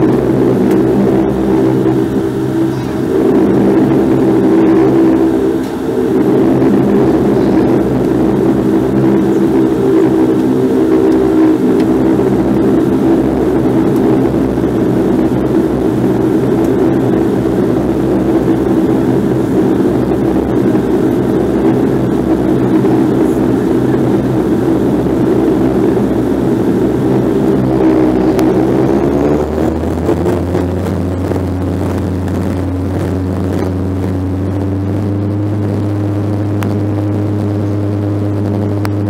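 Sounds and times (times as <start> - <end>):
propeller drone: 0.0 - 39.0.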